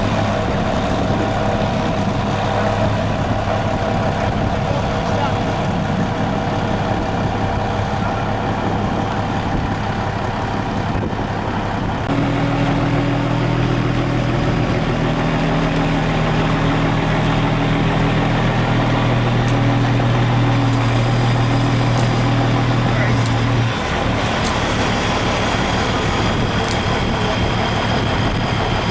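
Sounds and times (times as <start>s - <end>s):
heavy vehicle engine running: 0.0s - 28.9s.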